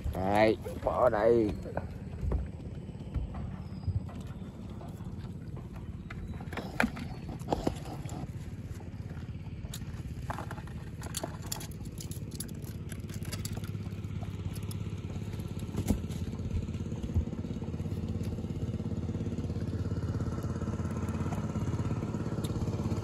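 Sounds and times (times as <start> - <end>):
motor engine running: 0.0 - 23.0
clatter of crabs sorted by hand: 3.2 - 23.0.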